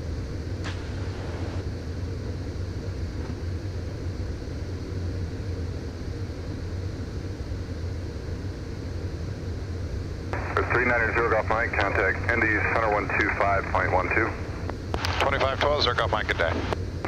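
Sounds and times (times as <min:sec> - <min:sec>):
jet engine drone and airflow: 0:00.0 - 0:17.0.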